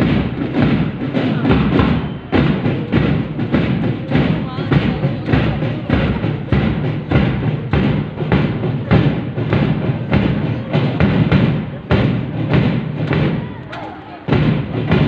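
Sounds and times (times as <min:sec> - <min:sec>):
bass drums beating: 0:00.0 - 0:13.7, 0:14.3 - 0:15.0
marching band playing a march: 0:00.0 - 0:15.0.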